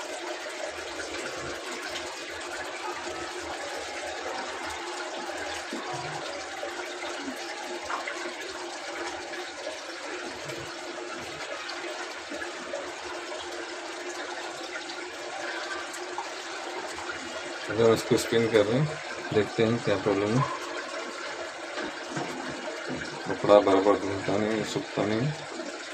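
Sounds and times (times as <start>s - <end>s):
water rushing in washing machine: 0.0s - 25.9s.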